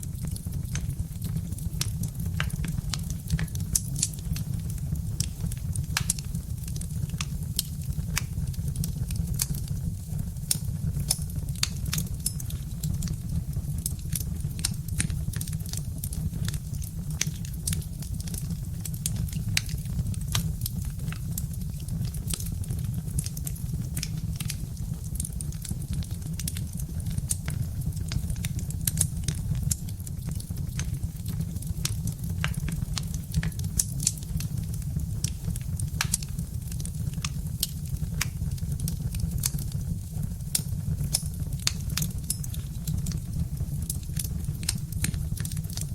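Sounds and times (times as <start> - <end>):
log fire crackling: 0.0 - 45.9
sharp pops and snaps: 0.2 - 45.9.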